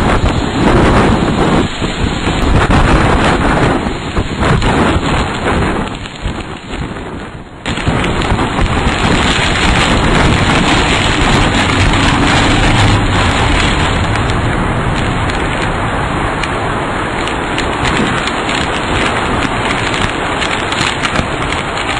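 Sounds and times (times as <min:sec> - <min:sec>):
strong wind and rain rushing: 0:00.0 - 0:21.9.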